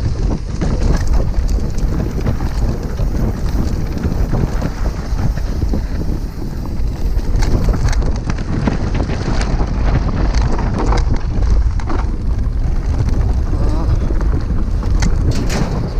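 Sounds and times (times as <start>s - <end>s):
bike rattling and knocking: 0.0s - 15.9s
tyres rumbling on dirt: 0.0s - 15.9s
wind buffeting microphone: 0.0s - 15.9s.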